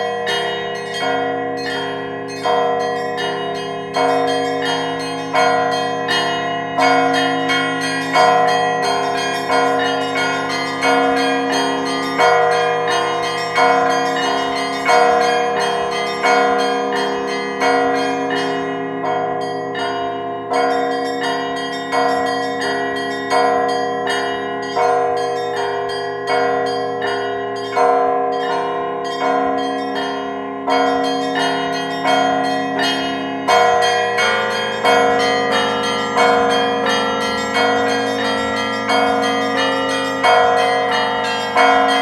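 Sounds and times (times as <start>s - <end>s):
smaller bells struck quickly: 0.0s - 42.0s.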